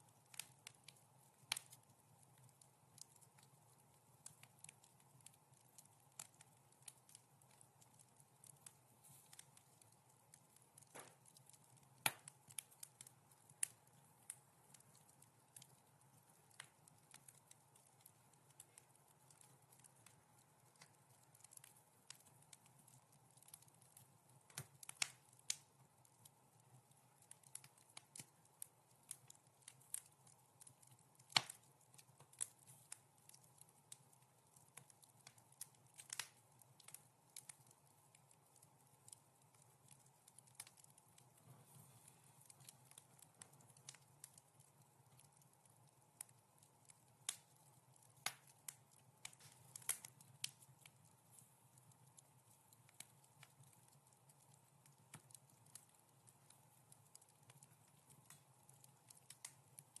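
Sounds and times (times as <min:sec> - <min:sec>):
fire pops and snaps: 0:00.0 - 1:00.0
wood fire crackling: 0:00.0 - 1:00.0.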